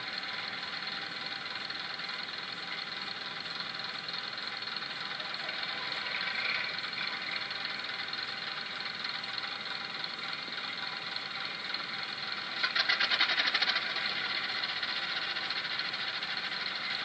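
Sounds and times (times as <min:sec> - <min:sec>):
engine starting with rapid knocks: 0:00.0 - 0:17.0
recorded diesel engine running: 0:00.0 - 0:17.0.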